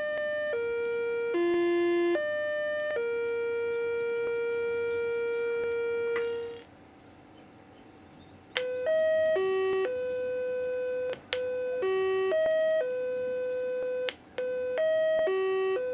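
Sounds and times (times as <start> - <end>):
square-wave electronic tones: 0.0 - 6.7, 8.6 - 15.9.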